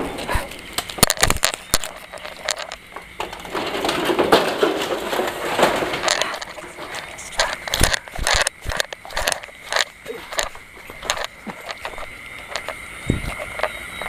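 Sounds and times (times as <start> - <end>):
rustling scuffle: 0.0 - 13.8.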